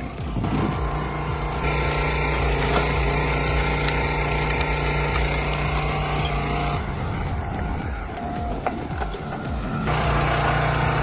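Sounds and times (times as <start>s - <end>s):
machine engine droning: 0.0s - 11.0s.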